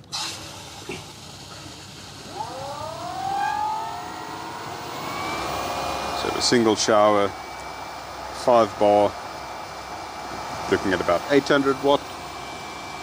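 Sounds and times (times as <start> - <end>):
pump motor whine: 0.0 - 13.0.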